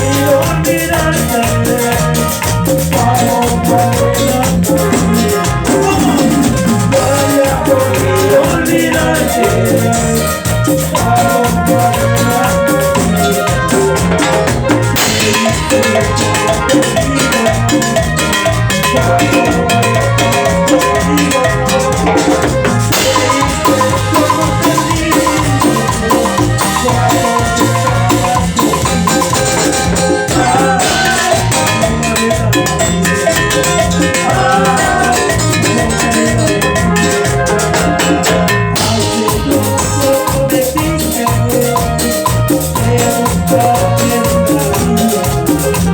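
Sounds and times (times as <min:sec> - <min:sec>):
latin dance music: 0:00.0 - 0:45.9.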